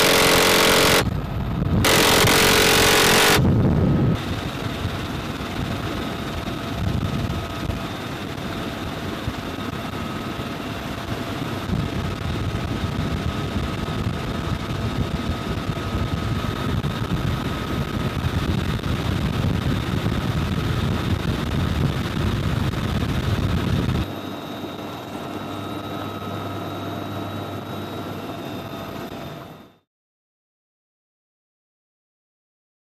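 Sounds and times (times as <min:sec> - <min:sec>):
helicopter rotor and engine noise: 0:00.0 - 0:29.9
high engine whine: 0:00.0 - 0:29.9.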